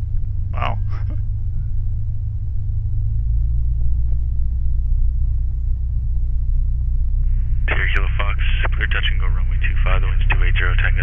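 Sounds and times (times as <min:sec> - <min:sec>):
light aircraft engine rumbling: 0:00.0 - 0:11.0.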